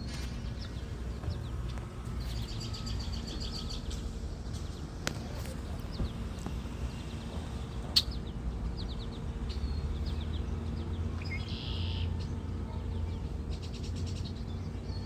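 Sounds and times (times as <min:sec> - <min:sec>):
bird chirping: 0:00.0 - 0:04.9, 0:05.5 - 0:15.0.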